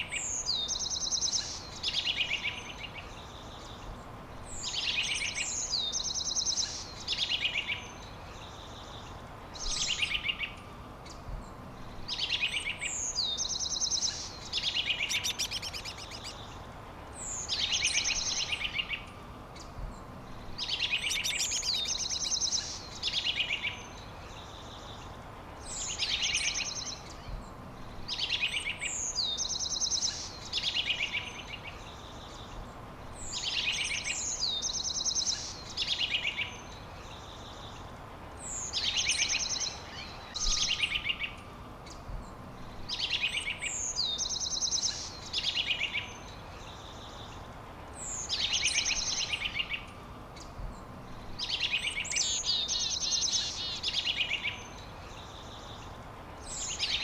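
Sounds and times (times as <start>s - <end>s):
faint background noise: 0.0s - 57.0s
songbirds trilling: 0.0s - 57.0s.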